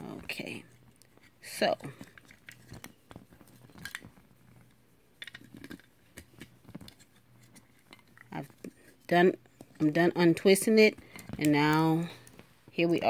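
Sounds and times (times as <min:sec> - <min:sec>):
earphone cord rustling: 0:00.8 - 0:12.5.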